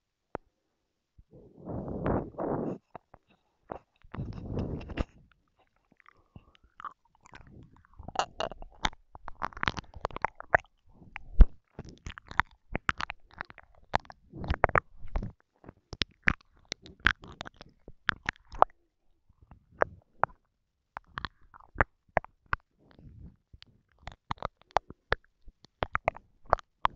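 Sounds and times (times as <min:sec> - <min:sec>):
wet mouth clicks and smacks: 0:02.9 - 0:18.8, 0:21.0 - 0:26.9.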